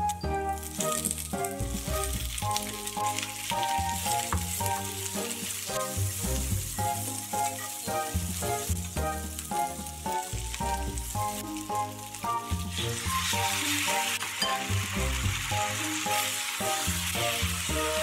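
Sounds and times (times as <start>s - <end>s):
background music: 0.0s - 18.0s
vegetables sizzling in oil: 0.0s - 18.0s.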